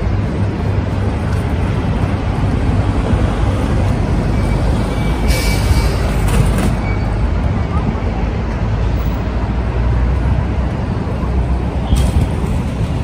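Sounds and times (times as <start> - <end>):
rumble of passing vehicles: 0.0 - 13.0.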